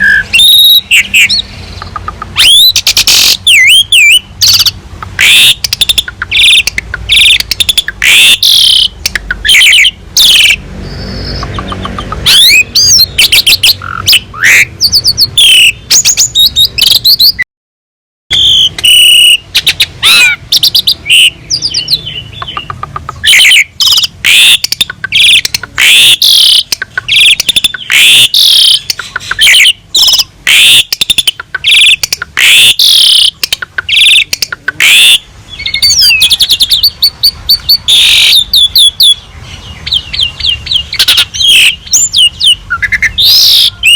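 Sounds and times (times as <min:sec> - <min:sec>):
starling singing: 0:00.0 - 0:17.4, 0:18.3 - 0:43.9.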